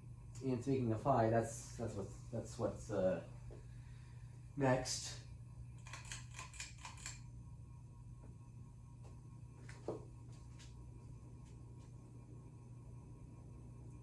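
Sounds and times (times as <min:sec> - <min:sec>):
fan motor humming: 0:00.0 - 0:14.0.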